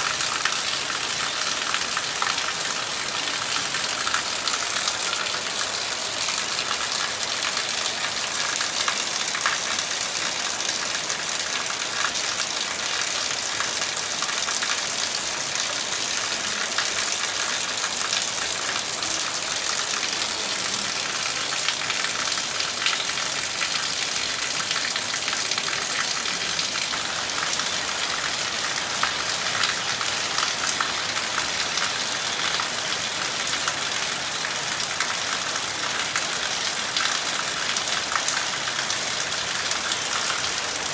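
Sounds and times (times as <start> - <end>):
heavy rain falling on trees: 0.0 - 40.9.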